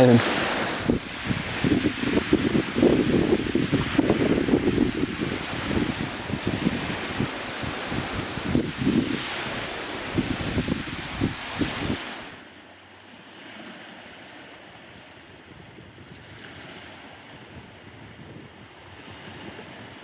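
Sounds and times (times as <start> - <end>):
wind buffeting microphone: 0.0 - 12.4, 15.3 - 20.0.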